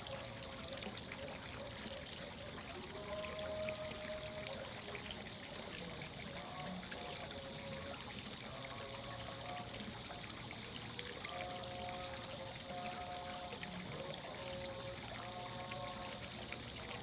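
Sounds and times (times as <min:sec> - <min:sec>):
running water pouring and trickling: 0:00.0 - 0:17.0
soft sustained musical tones: 0:00.0 - 0:17.0.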